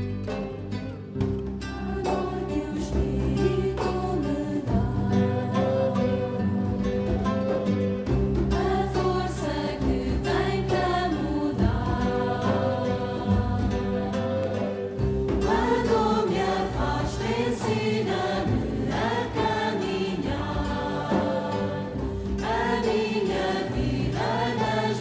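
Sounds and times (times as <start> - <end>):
sustained instrumental accompaniment: 0.0 - 25.0
choir singing religious song: 1.7 - 7.8, 8.4 - 25.0.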